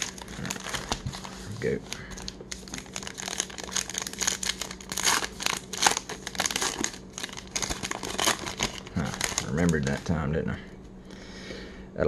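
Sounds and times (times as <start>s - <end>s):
wrapper torn and crinkled: 0.0s - 10.2s.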